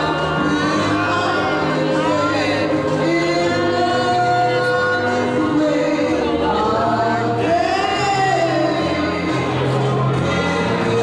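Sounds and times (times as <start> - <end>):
bass line: 0.0 - 11.0
people singing: 0.0 - 11.0.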